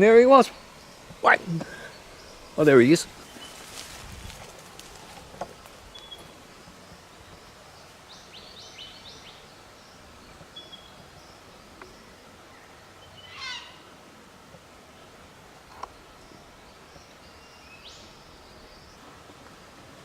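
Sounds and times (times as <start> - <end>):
bush background noise: 0.0 - 20.0.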